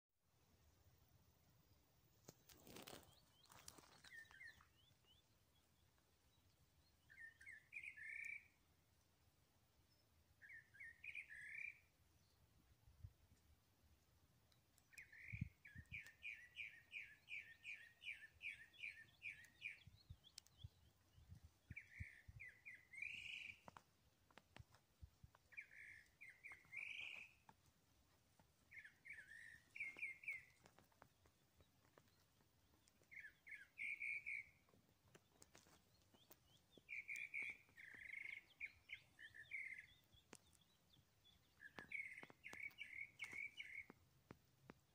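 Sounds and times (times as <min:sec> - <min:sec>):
songbird chirping: 0:00.2 - 0:44.9.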